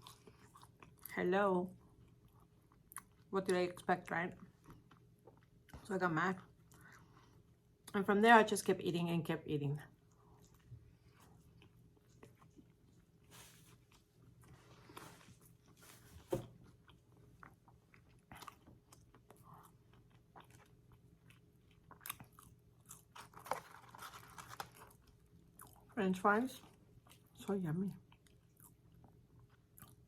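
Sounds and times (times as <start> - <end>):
chewing and crunching fried food: 0.0 - 8.0, 9.8 - 15.8, 16.6 - 30.0.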